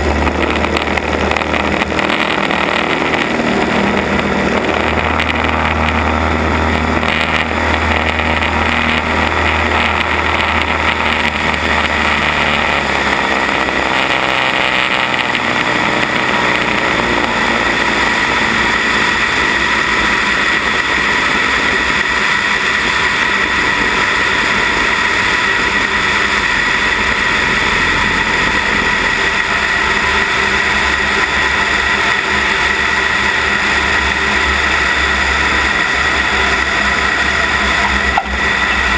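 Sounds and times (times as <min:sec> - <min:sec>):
high whine: 0:00.0 - 0:38.9
propeller plane engine drone: 0:00.0 - 0:38.9.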